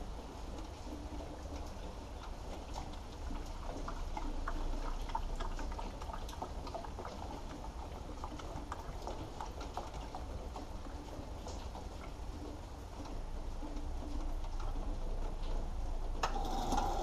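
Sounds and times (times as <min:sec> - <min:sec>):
low steady hum: 0:00.0 - 0:17.0
water trickling and splashing: 0:00.0 - 0:17.0.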